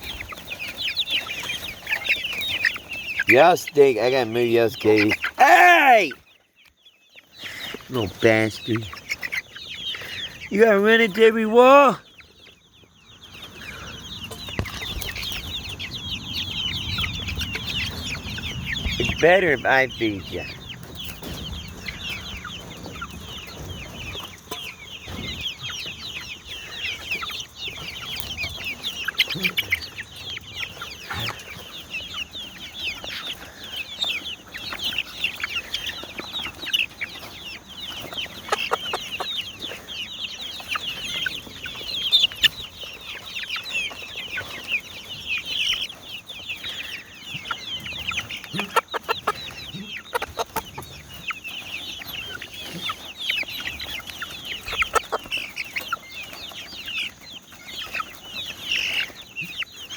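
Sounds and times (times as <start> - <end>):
chickens peeping and clucking: 0.0 - 59.9.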